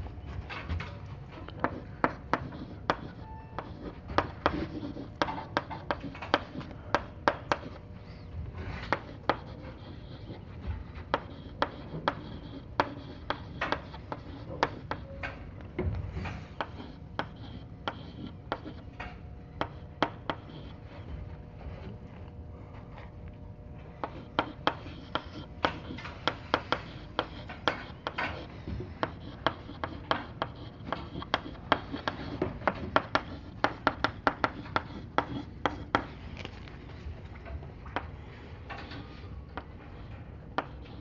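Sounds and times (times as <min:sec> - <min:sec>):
faint steady hum: 0:00.0 - 0:41.0
chalk tapping and scraping on blackboard: 0:01.4 - 0:22.0, 0:23.9 - 0:37.0, 0:37.9 - 0:41.0.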